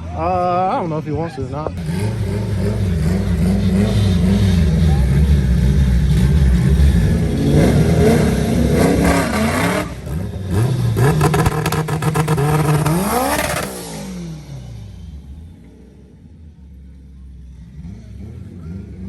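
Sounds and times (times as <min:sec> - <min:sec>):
drag racing car engines: 0:00.0 - 0:19.0.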